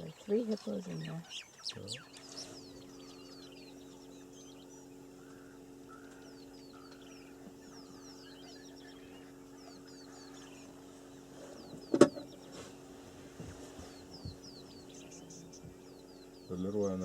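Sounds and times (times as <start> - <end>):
birds whistling: 0.0 - 17.0
steady low hum: 0.0 - 17.0.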